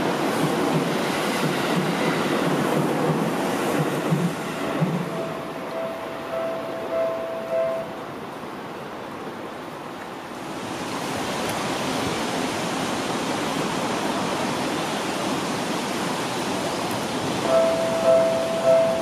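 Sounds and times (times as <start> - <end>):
rain hissing: 0.2 - 19.0.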